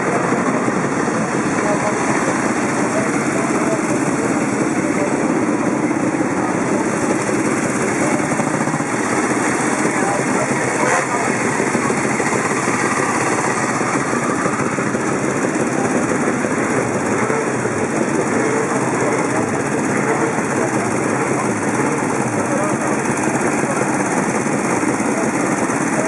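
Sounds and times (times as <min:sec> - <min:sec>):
crowd chattering: 0:00.0 - 0:26.0
motorcycle engines idling: 0:00.0 - 0:26.0.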